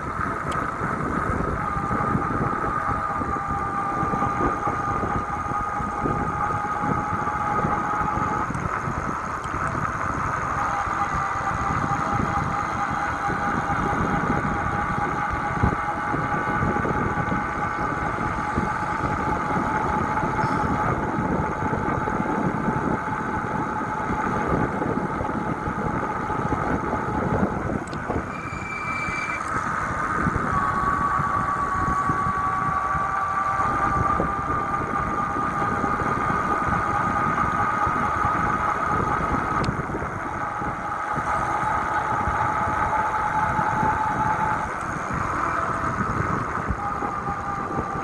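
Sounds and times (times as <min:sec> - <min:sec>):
constant high whine: 0:00.0 - 0:48.0
road and wind rumble: 0:00.0 - 0:48.0.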